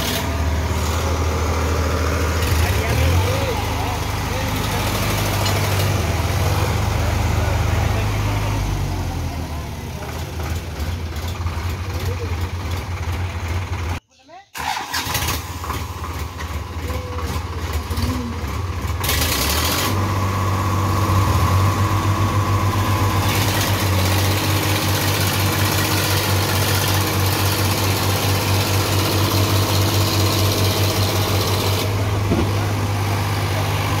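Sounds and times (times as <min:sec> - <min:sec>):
tractor engines running under load: 0:00.0 - 0:14.0, 0:14.6 - 0:34.0.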